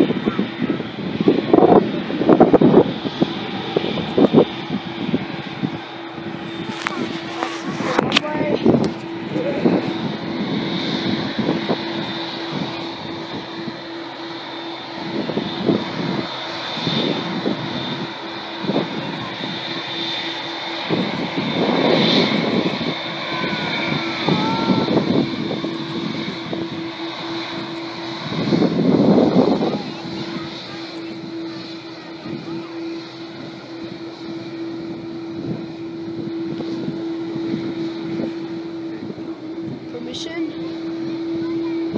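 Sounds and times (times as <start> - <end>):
airliner engines humming with whine: 0.0 - 41.9.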